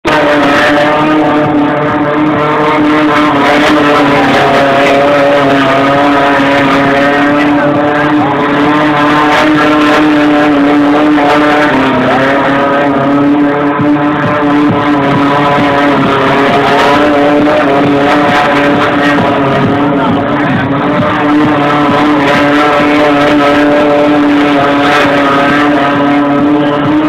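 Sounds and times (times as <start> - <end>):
car engine at high revs: 0.0 - 27.0.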